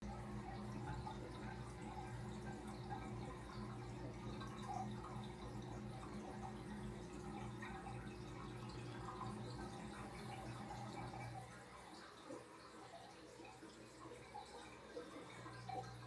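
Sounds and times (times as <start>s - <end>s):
pump humming: 0.0s - 16.0s
water trickling and dripping: 0.0s - 16.0s.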